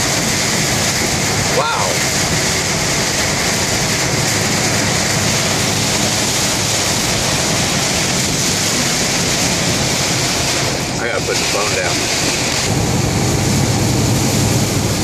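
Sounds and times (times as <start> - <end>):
heavy rain hitting a car: 0.0 - 15.0
tyres hissing on a wet road: 0.0 - 15.0
wind: 0.0 - 15.0.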